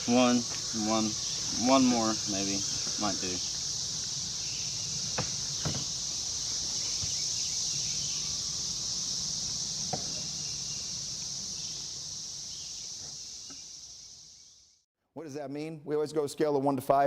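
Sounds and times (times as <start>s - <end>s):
insects chirping chorus: 0.0s - 14.8s.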